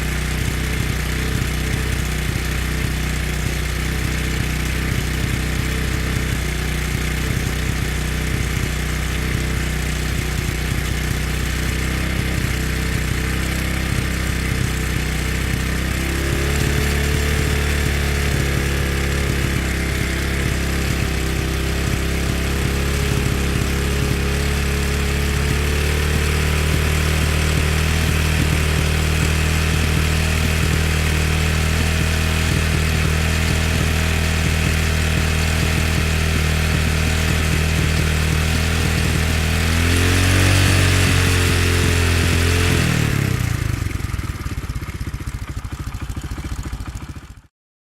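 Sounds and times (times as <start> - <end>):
motorcycle engine running: 0.0 - 47.5.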